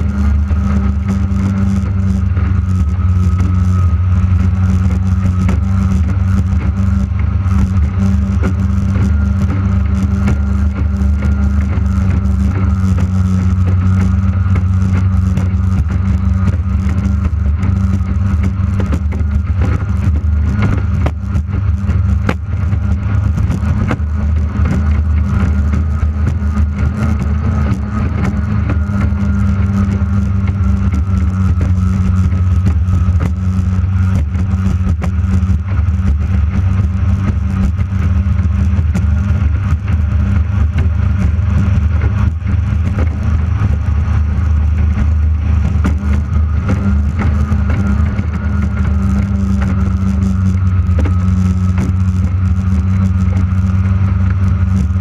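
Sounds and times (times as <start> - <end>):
outboard engine racing: 0.0 - 55.0
rushing wind and water: 0.0 - 55.0.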